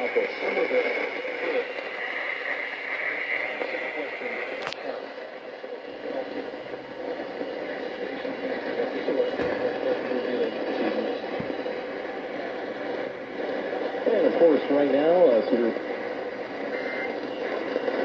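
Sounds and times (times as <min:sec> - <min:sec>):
radio hiss and static: 0:00.0 - 0:18.0.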